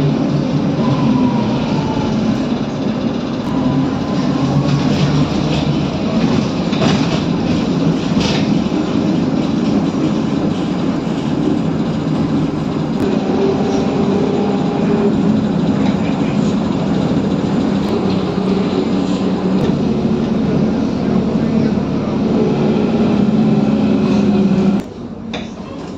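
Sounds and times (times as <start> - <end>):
trolleybus rumbling: 0.0 - 25.9.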